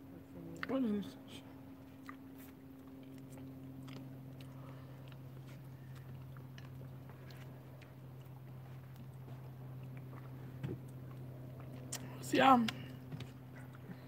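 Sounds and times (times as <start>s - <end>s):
steady low hum: 0.0s - 14.0s
people chewing: 1.5s - 14.0s.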